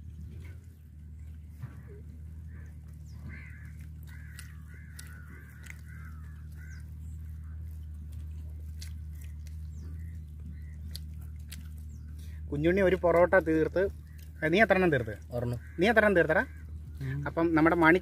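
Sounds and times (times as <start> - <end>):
steady low hum: 0.0 - 18.0
bird calling: 0.4 - 18.0.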